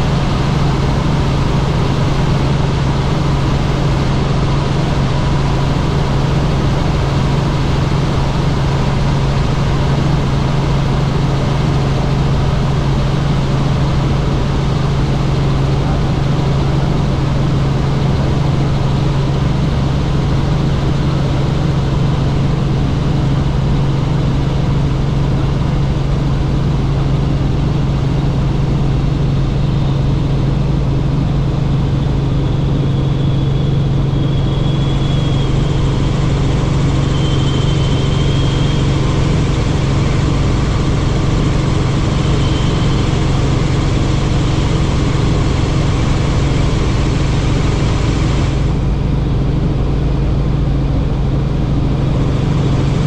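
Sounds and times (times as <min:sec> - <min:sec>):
helicopter rotors and engine: 0:00.0 - 0:53.0.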